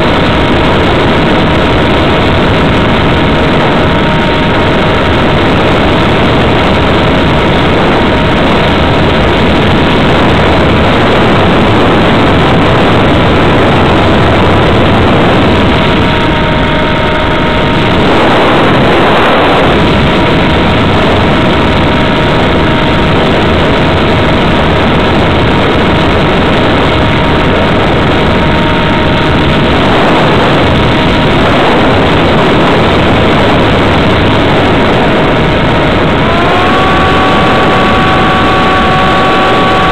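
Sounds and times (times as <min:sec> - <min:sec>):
model aircraft motor whine: 0:00.0 - 0:39.9
rushing air noise: 0:00.0 - 0:39.9.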